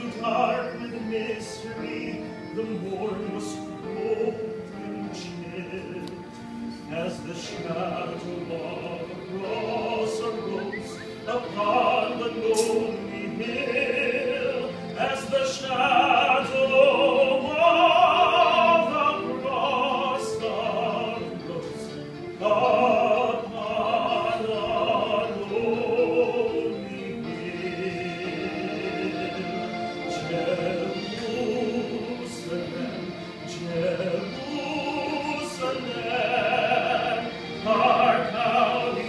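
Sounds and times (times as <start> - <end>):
person singing operatically: 0.0 - 6.3, 6.9 - 39.0.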